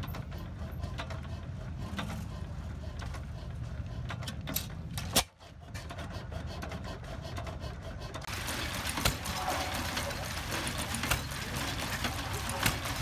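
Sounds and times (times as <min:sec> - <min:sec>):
stationary gas engine running: 0:00.0 - 0:13.0.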